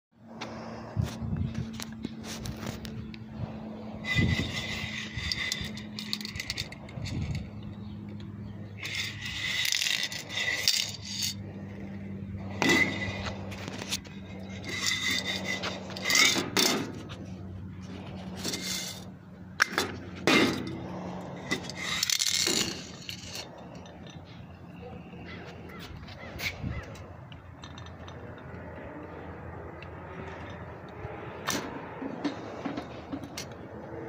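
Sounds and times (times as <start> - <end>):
steady low hum: 0.2 - 34.0.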